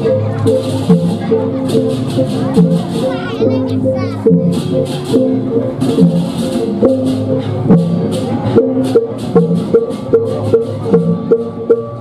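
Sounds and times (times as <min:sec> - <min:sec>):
gamelan music: 0:00.0 - 0:12.0
hand cymbals clashing: 0:00.0 - 0:12.0.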